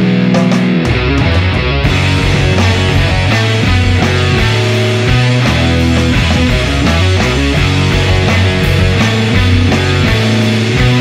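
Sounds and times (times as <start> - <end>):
heavy rock music with electric guitar: 0.0 - 11.0.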